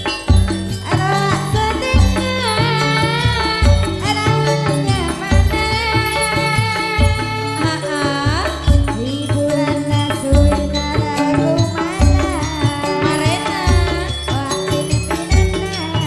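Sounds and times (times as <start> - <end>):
metallophones and gongs ringing: 0.0 - 16.0
woman singing ornamented vocals: 0.7 - 16.0.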